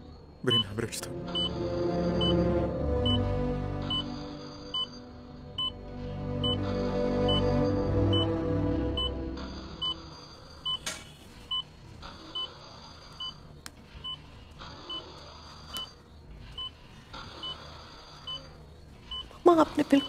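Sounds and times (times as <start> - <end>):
patient monitor beeping: 0.4 - 20.0.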